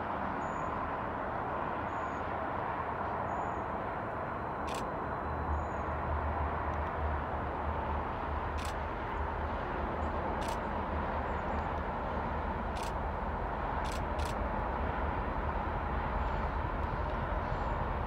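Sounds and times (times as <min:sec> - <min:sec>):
outdoor noise: 0:00.0 - 0:18.0.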